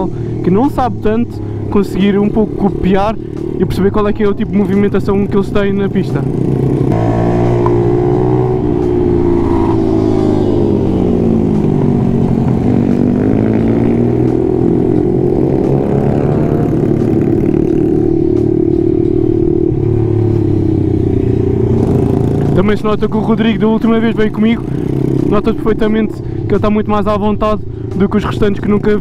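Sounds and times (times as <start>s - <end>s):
motorbike engine revving: 1.7s - 26.8s.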